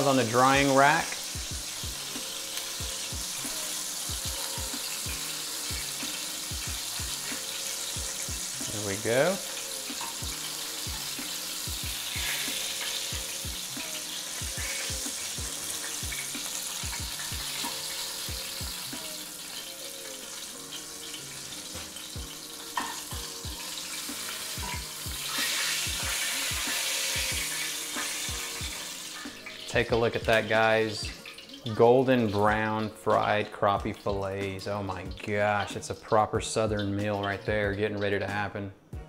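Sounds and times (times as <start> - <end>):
fish frying in hot oil: 0.0 - 33.3
background music with steady beat: 0.0 - 39.0.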